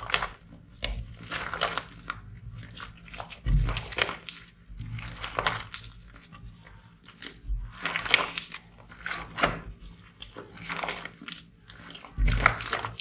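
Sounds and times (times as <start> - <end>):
slime squished by hand: 0.0 - 13.0.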